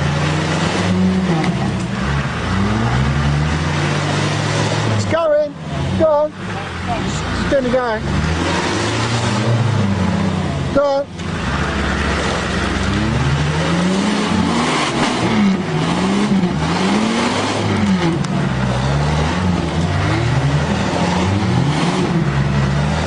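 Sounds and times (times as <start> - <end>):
engine revving hard: 0.0 - 23.0.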